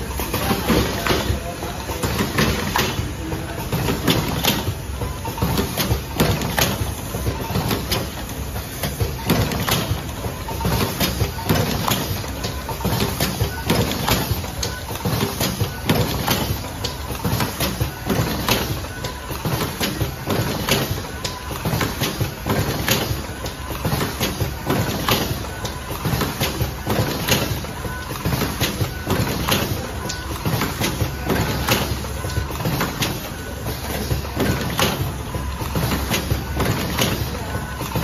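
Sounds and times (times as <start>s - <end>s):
machine clacks and knocks: 0.0s - 38.0s.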